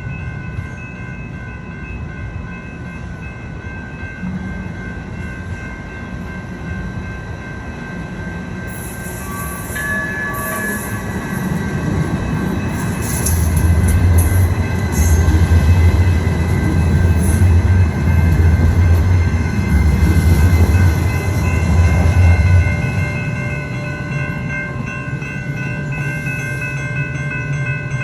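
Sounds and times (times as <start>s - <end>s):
tram electric whine: 0.0s - 28.0s
tram rumble on rails: 0.0s - 28.0s.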